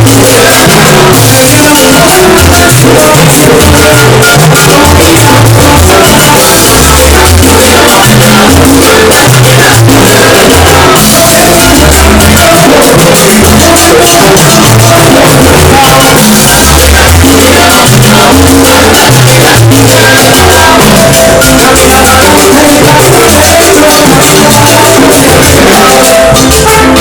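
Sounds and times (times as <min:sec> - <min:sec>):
latin dance music with bass: 0:00.0 - 0:27.0.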